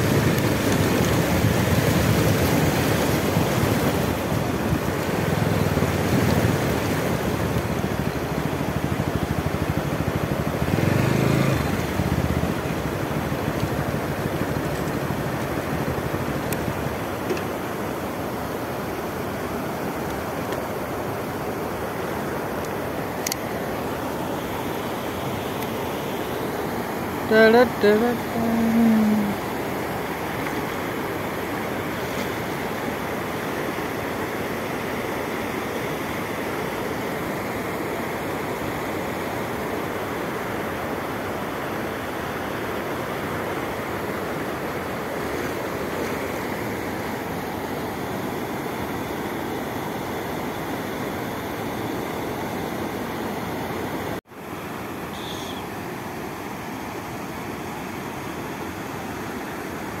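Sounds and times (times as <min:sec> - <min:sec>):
water rushing over weir: 0:00.0 - 1:00.0.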